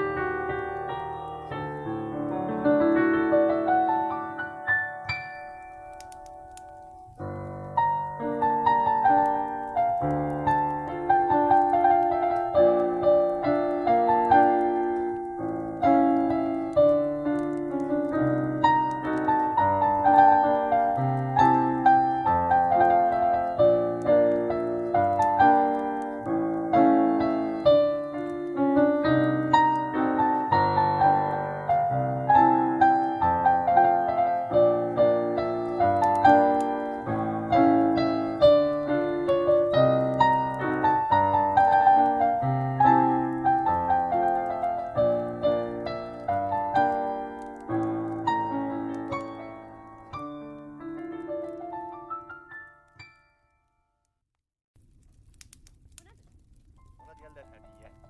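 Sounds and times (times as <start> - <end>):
slow solo piano melody: 0.0 - 54.0
fireplace crackling: 0.0 - 54.2, 54.8 - 58.0.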